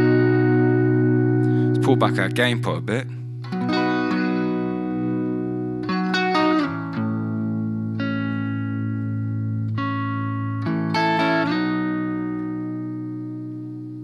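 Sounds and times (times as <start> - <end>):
electric guitar chords: 0.0 - 14.0.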